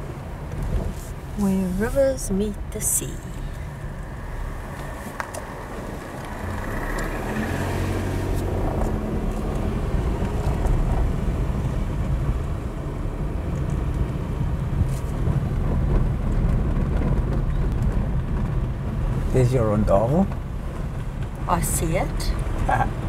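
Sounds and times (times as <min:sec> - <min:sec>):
car driving on gravel road: 0:00.0 - 0:23.0.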